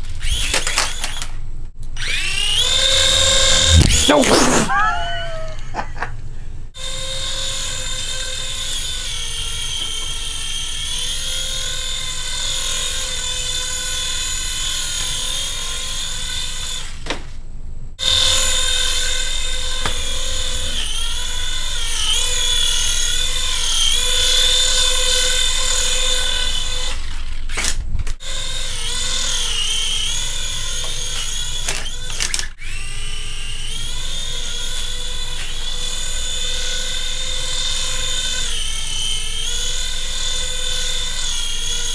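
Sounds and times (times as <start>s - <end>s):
toy electric motors whining: 0.0s - 1.4s, 2.0s - 5.7s, 6.8s - 17.1s, 18.0s - 41.9s.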